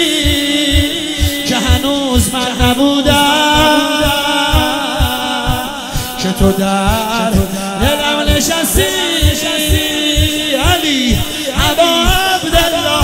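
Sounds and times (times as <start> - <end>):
person singing long ornamented notes: 0.0 - 13.0
steady low beat: 0.0 - 13.0.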